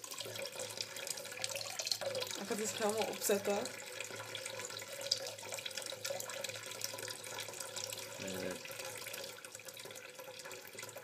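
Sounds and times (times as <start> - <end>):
tap water splashing into sink: 0.0 - 11.0.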